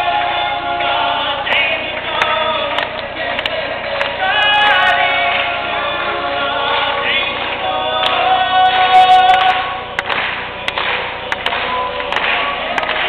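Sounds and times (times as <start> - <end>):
male a cappella group singing: 0.0 - 13.0.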